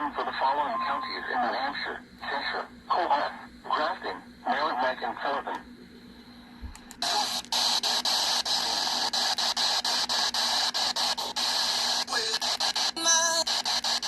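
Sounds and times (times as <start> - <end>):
radio static hiss: 0.0 - 5.7, 7.0 - 14.0.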